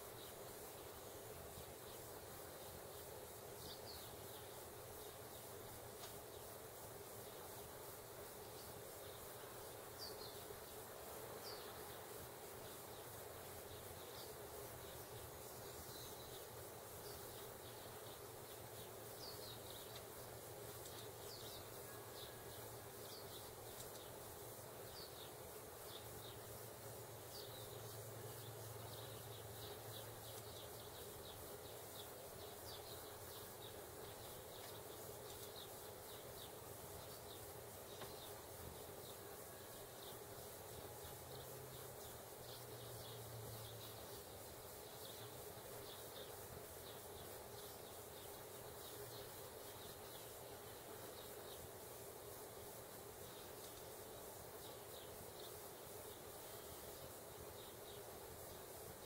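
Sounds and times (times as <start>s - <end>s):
small birds chirping: 0.0s - 59.0s
steady background hiss: 0.0s - 59.0s.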